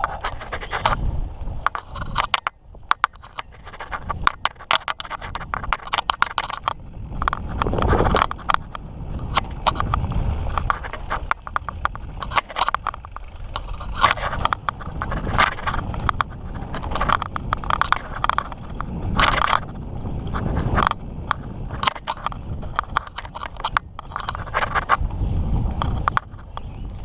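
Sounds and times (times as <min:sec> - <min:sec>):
bike rattling with clicks: 0:00.0 - 0:27.0
bike tyres crunching on dirt: 0:00.0 - 0:27.0.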